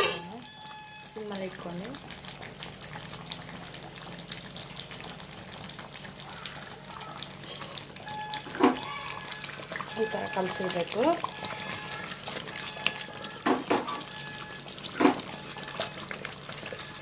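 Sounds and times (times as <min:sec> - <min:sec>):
curry simmering in a pot: 0:00.2 - 0:17.0.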